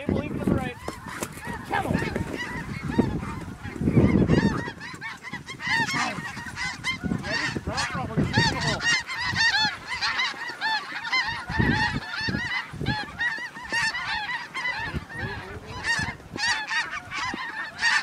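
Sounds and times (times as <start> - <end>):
geese honking: 0.0 - 18.0
wind rumble on microphone: 0.0 - 18.0.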